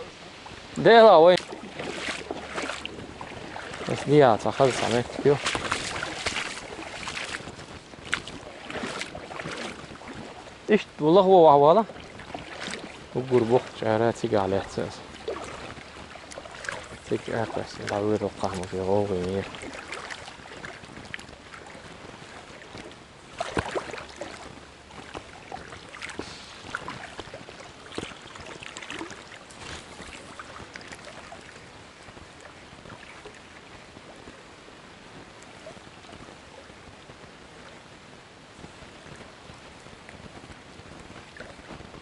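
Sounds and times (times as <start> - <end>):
small river running: 0.0 - 42.0.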